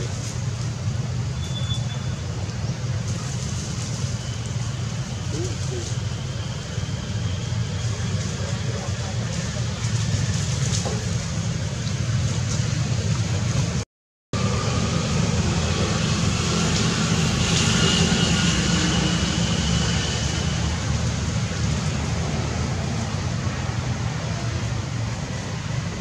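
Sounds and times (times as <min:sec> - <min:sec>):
low rumbling background noise: 0:00.0 - 0:13.8, 0:14.4 - 0:26.0.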